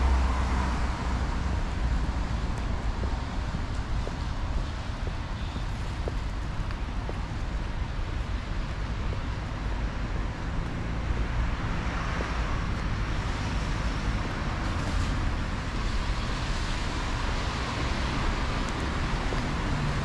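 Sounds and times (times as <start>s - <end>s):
road traffic rumble and hiss: 0.0s - 20.0s.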